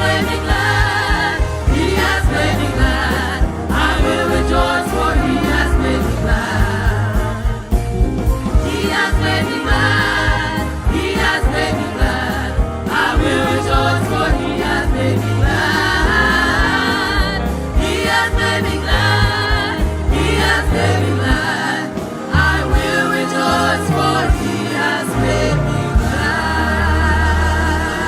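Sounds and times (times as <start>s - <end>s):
choir singing gospel song: 0.0s - 28.0s
instrumental backing with beat: 0.0s - 28.0s.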